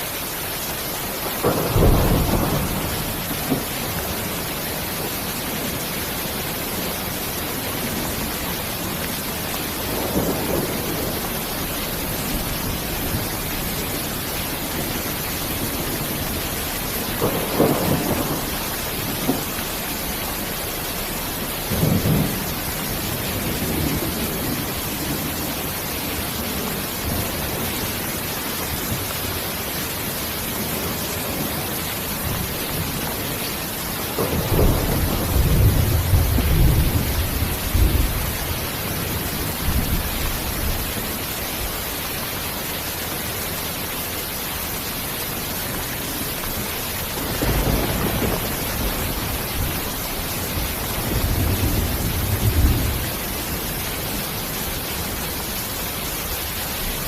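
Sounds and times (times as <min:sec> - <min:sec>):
heavy rain hissing: 0:00.0 - 0:57.0
thunder rumbling: 0:00.6 - 0:42.2, 0:45.7 - 0:57.0.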